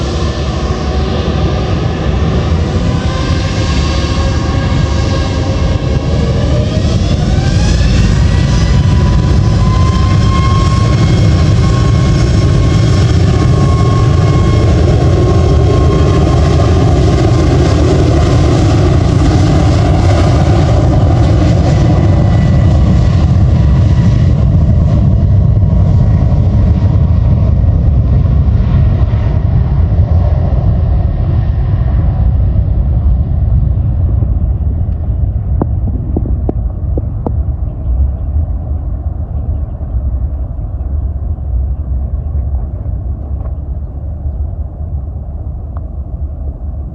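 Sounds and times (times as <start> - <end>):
jet engine low rumble: 0.0 - 46.9
jet engine whine: 0.0 - 46.9.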